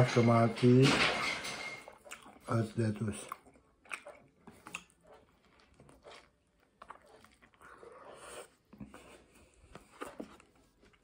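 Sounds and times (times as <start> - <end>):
person chewing food: 1.8 - 11.0.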